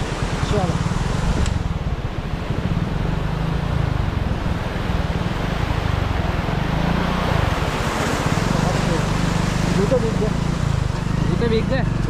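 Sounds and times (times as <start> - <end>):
wind rushing over microphone: 0.0 - 11.4
vehicle engine running: 0.0 - 12.0.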